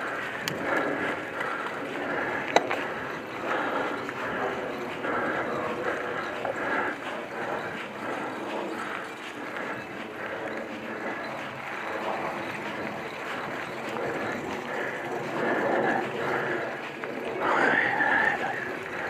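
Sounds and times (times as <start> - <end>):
bike rattling: 0.0 - 19.0
bike tyres on dirt trail: 0.0 - 19.0
regular pulsing: 0.0 - 19.0.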